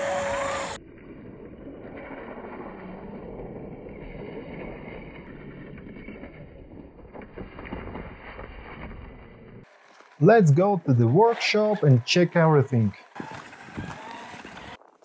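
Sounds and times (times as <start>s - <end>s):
toy truck driving through snow: 0.0s - 15.0s.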